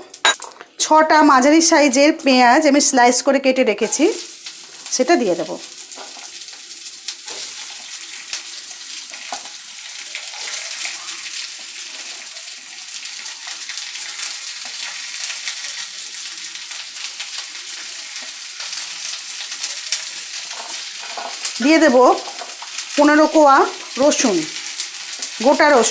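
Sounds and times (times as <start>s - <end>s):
onions sizzling in oil: 1.2s - 25.9s.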